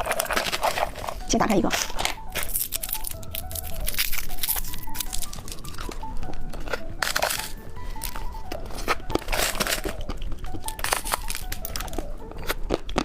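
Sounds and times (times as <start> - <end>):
plastic wrapper crinkling and tearing: 0.0 - 13.0
soft background music: 0.0 - 13.0.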